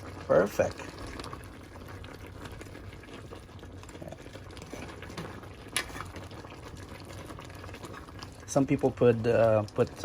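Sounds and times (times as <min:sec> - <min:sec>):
thick stew bubbling and popping: 0:00.0 - 0:10.0.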